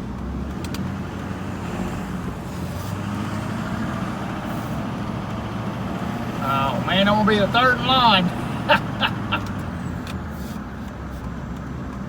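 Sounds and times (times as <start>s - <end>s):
road noise: 0.0s - 12.0s
low engine rumble: 1.5s - 12.0s.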